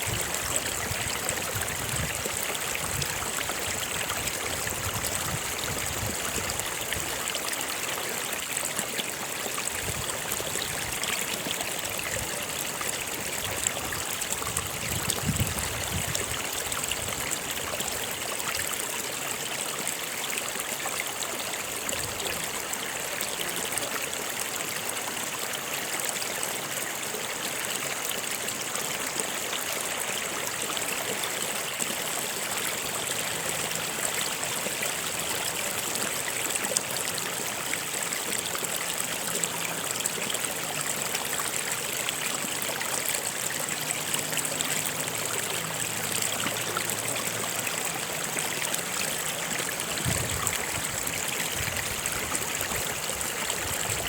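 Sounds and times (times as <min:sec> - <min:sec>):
stream of water flowing: 0:00.0 - 0:54.0.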